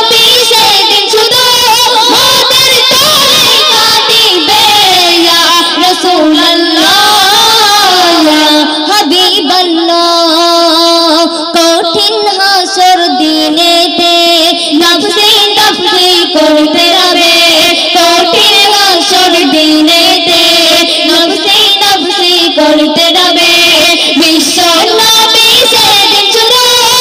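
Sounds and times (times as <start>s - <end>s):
young women singing into microphones: 0.0s - 27.0s.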